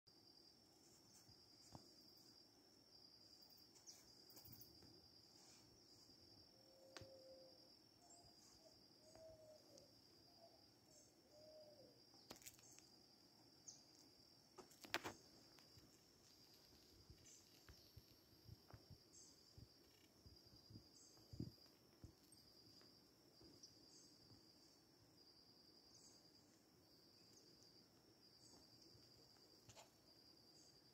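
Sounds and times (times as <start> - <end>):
insects trilling: 0.3 - 30.9.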